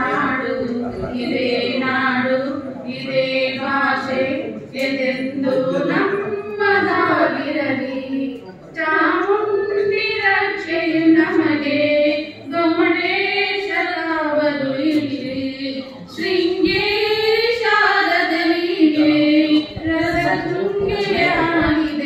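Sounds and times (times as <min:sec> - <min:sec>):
two women singing into a microphone: 0:00.0 - 0:22.0.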